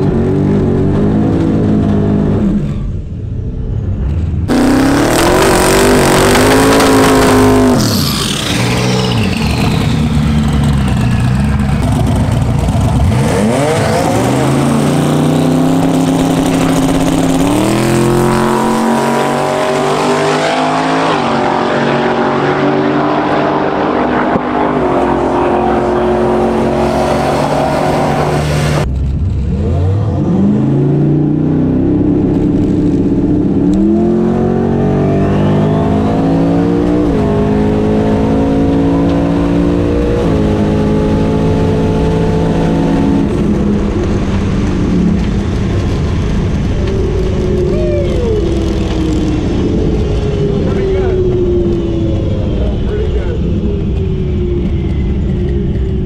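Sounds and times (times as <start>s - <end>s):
drag car engine at full throttle: 0.0s - 56.0s.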